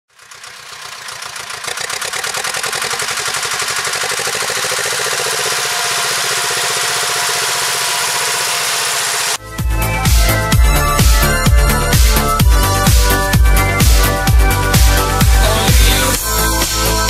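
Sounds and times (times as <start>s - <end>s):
tractor diesel engine running: 0.1s - 17.0s.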